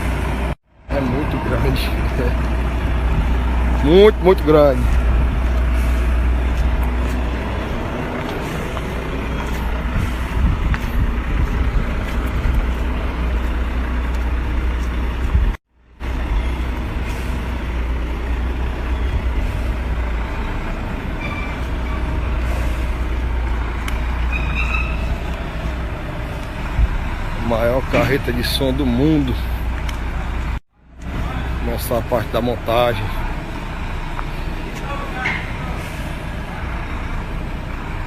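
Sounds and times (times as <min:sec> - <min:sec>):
heavy truck engine rumbling: 0:00.0 - 0:38.0
outdoor noise: 0:00.0 - 0:38.0.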